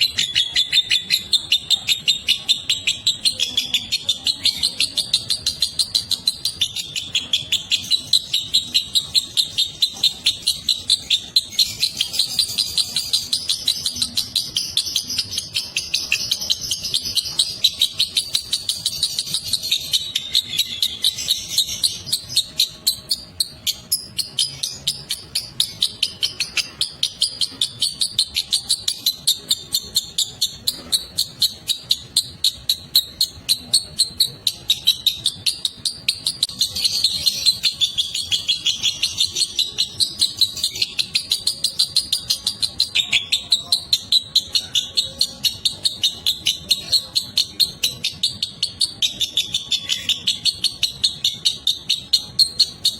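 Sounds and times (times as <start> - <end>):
bird chattering shrill chirps: 0.0 - 52.9.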